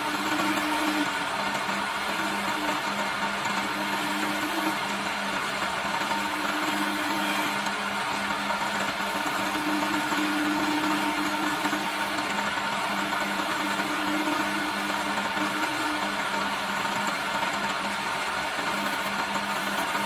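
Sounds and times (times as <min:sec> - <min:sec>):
chisel shaving wood hiss: 0:00.0 - 0:20.0
lathe motor humming: 0:00.0 - 0:20.0.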